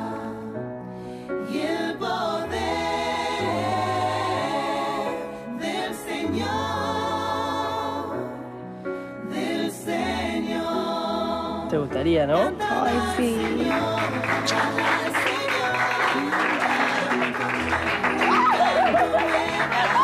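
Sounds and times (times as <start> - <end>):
electronic keyboard accompaniment: 0.0 - 20.0
women's choir singing: 0.0 - 20.0.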